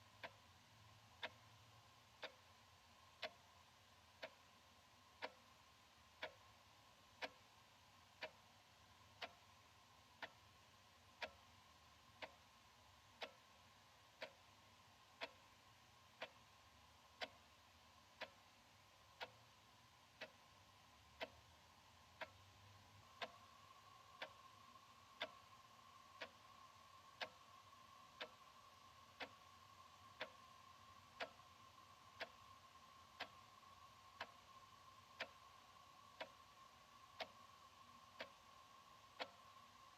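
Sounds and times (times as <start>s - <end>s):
faint high hum: 0.0s - 39.9s
wall clock ticking: 0.0s - 39.9s.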